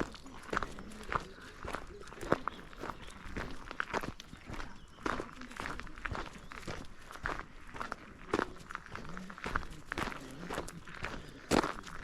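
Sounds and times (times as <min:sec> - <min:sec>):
footsteps on outdoor path: 0:00.0 - 0:12.0.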